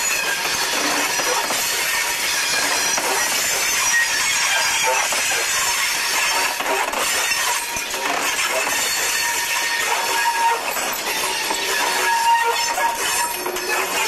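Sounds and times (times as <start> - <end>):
freight train wheels clattering: 0.0 - 14.0
train wheel squeal: 0.0 - 14.0.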